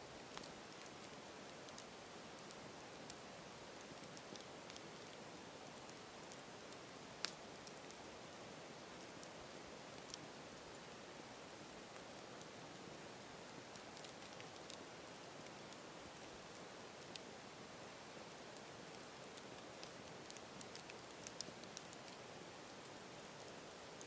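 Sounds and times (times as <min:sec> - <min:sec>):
campfire hissing: 0:00.0 - 0:24.0
campfire crackles and pops: 0:00.1 - 0:24.0.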